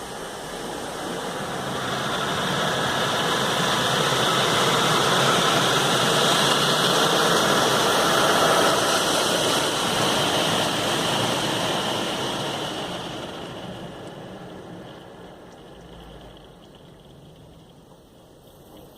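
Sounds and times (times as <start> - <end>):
car wash equipment hissing: 0.0 - 18.9.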